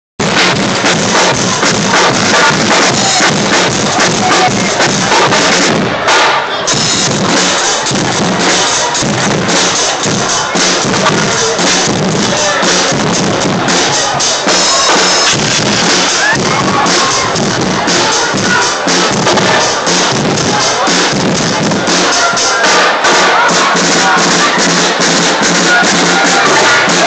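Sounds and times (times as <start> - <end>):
brass band playing: 0.2 - 27.0
crowd noise: 0.2 - 27.0.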